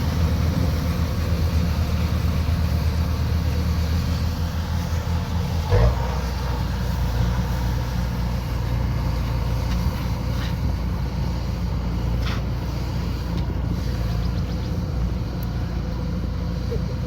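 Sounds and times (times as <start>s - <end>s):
combine harvester engine drone: 0.0s - 17.0s
machinery noise: 0.0s - 17.0s.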